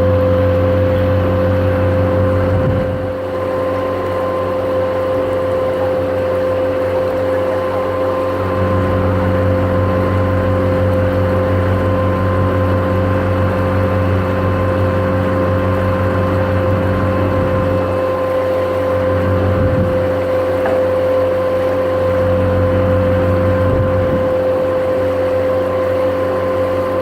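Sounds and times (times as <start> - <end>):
boat engine droning: 0.0 - 27.0
rushing water: 0.0 - 27.0.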